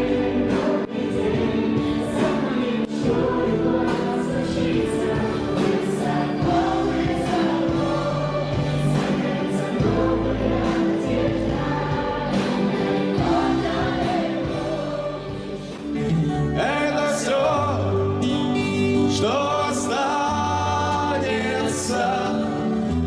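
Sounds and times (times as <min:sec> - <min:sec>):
choir-like background music: 0:00.0 - 0:23.0.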